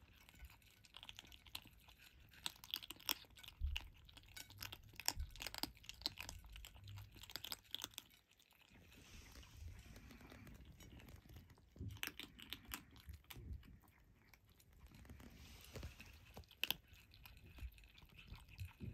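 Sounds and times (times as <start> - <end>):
kittens crunching dry kibble: 0.0 - 18.9.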